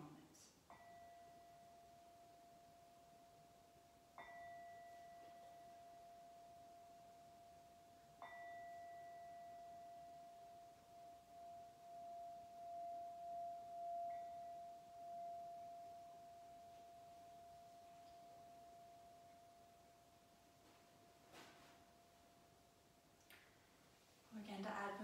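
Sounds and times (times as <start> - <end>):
singing bowl ringing: 0.7 - 22.6.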